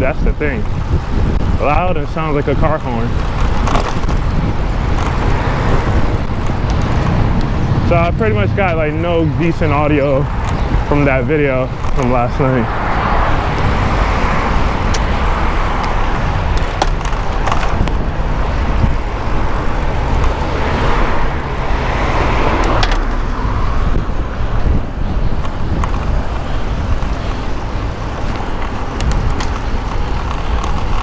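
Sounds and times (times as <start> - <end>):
city traffic: 0.0 - 31.0.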